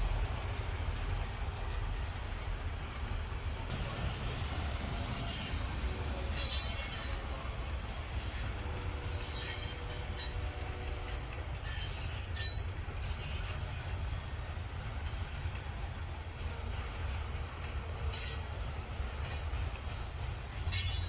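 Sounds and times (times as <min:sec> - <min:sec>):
freight train rumbling: 0:00.0 - 0:21.0
steel wheels squealing on rail: 0:01.7 - 0:15.7, 0:16.4 - 0:21.0.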